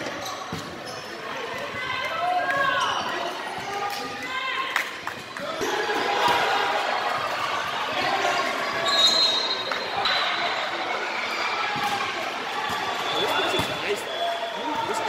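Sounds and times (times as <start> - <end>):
players' voices echoing: 0.0 - 15.0.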